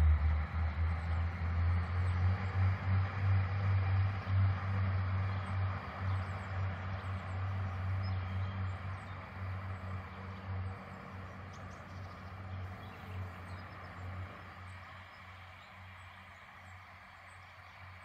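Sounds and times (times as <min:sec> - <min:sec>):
diesel train engine humming: 0:00.0 - 0:18.0.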